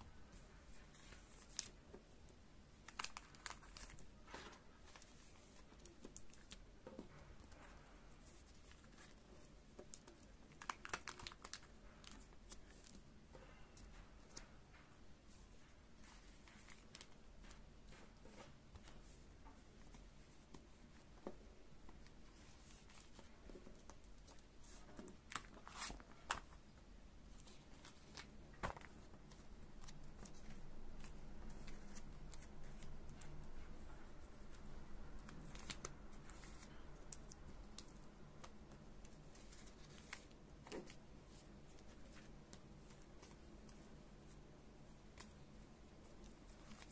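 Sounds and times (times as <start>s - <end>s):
plastic sleeves rustling: 0.1s - 46.9s.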